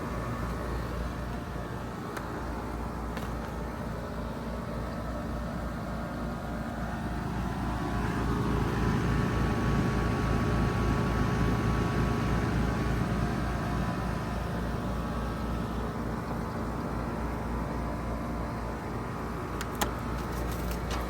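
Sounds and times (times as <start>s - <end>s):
heat pump unit humming: 0.0s - 21.0s.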